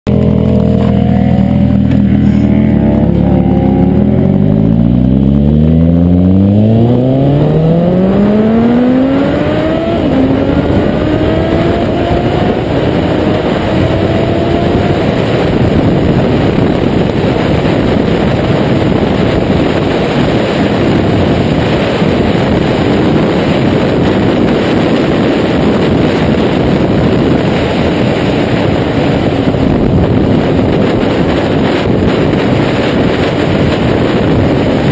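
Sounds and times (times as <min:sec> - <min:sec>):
motorcycle engine accelerating: 0:00.1 - 0:34.9
wind on microphone: 0:00.1 - 0:34.9.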